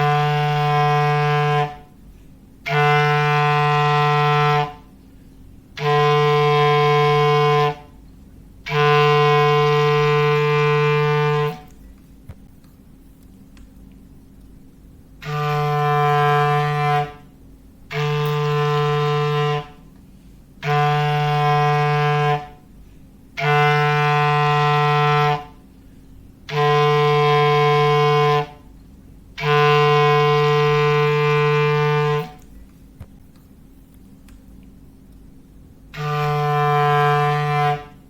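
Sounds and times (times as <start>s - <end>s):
foghorn blasts: 0.0s - 11.8s, 15.1s - 32.5s, 35.9s - 38.0s.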